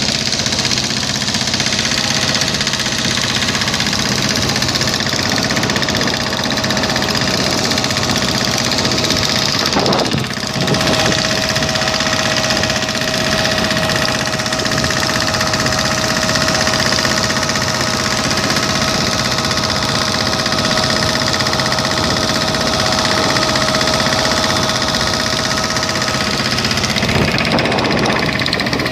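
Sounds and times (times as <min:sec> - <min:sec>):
engine droning: 0:00.0 - 0:28.9
steady whine: 0:00.0 - 0:28.9.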